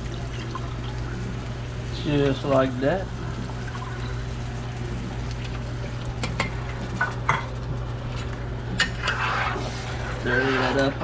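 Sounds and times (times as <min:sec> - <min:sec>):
sauce sizzling in a pot: 0:00.0 - 0:11.0.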